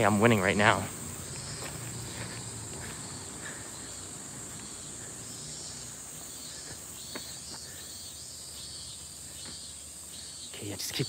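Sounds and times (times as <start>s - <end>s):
insects calling in trees: 0.0s - 11.0s
soft pulsing insect call: 0.0s - 11.0s.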